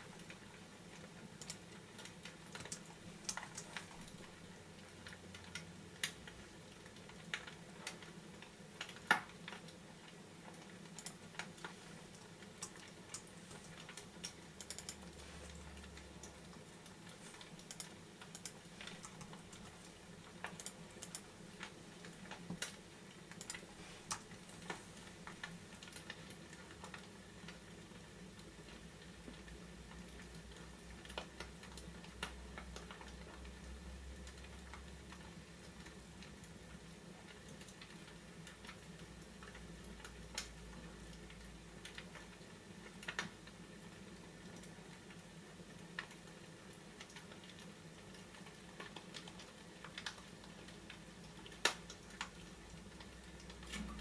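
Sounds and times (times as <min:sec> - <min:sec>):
faint steady hum: 0:00.0 - 0:54.0
fireplace crackling and popping: 0:00.0 - 0:54.0.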